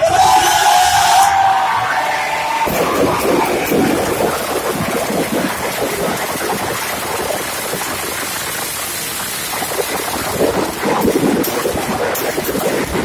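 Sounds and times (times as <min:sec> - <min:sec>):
firecrackers crackling: 0:01.8 - 0:13.0.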